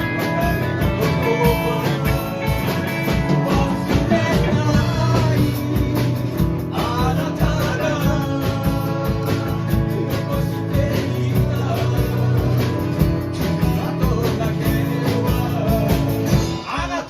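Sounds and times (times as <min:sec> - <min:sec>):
person singing: 0:00.0 - 0:17.0
rock band playing: 0:00.0 - 0:17.0.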